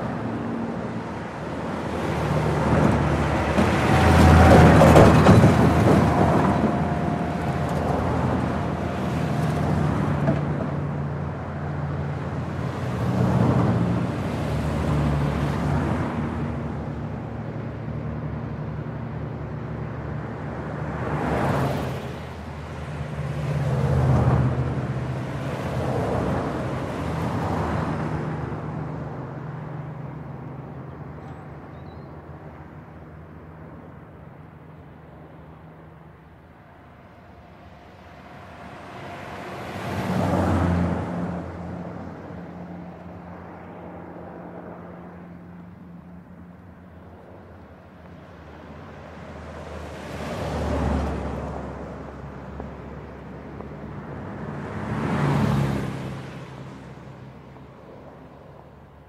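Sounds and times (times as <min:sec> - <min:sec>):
vehicles passing with tyre noise: 0:00.0 - 0:59.0.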